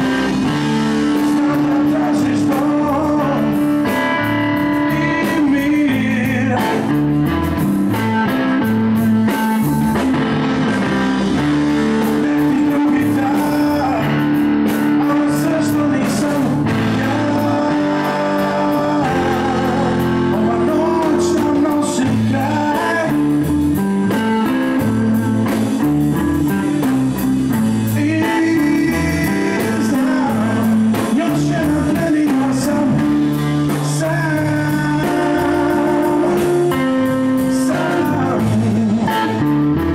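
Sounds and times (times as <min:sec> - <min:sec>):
man singing: 0:00.0 - 0:08.2, 0:10.8 - 0:39.9
drum kit with cymbals: 0:00.0 - 0:39.9
electric bass: 0:00.0 - 0:39.9
electric guitar: 0:00.0 - 0:39.9.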